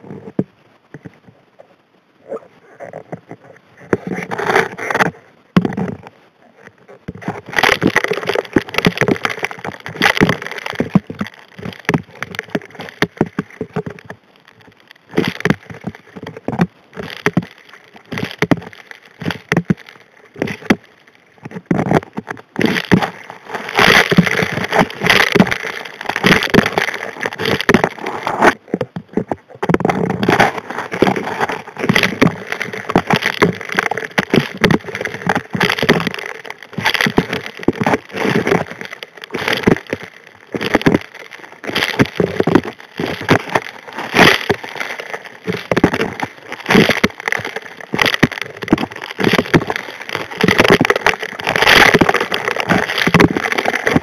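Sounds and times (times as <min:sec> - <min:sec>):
underwater rocks clattering on steel: 0:07.1 - 0:54.0.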